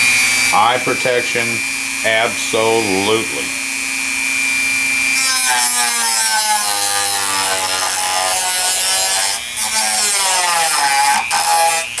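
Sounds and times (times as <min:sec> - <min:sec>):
rotary tool grinding metal: 0:00.0 - 0:03.7, 0:04.5 - 0:12.0.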